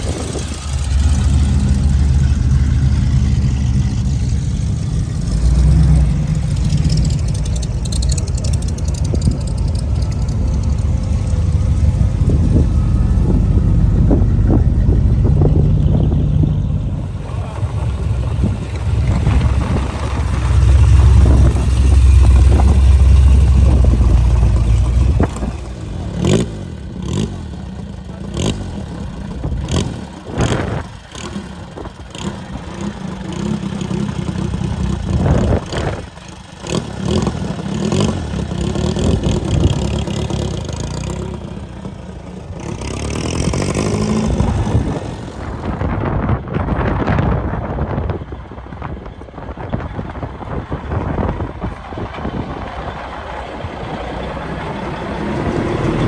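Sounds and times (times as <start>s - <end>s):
engine revving: 0.0s - 46.1s, 50.0s - 56.0s
car engines driving by: 0.0s - 56.0s
clatter: 0.0s - 56.0s.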